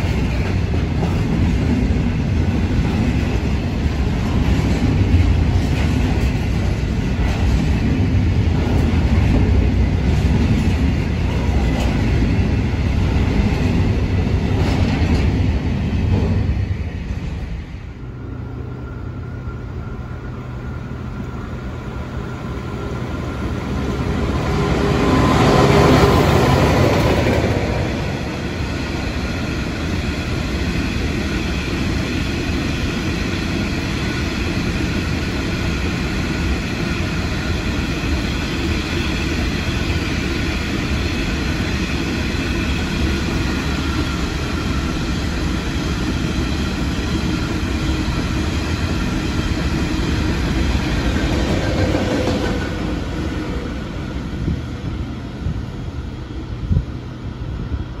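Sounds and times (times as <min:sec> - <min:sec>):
train passing at speed: 0:00.0 - 0:58.0
wheels rumbling on rails: 0:00.0 - 0:58.0.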